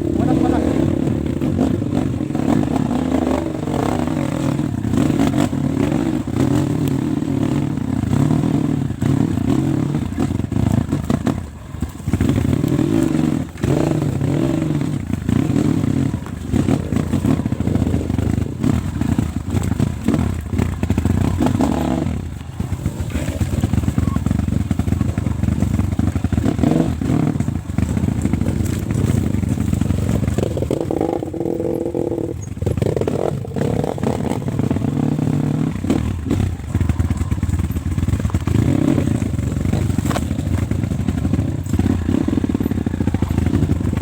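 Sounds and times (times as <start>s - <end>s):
trail motorcycle engine revving: 0.0s - 44.0s.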